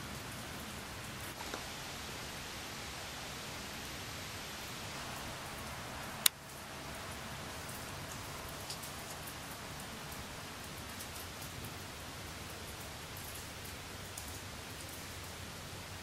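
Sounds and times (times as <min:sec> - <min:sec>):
faint ticks of raindrops: 0:00.0 - 0:16.0
light rain hissing: 0:00.0 - 0:16.0.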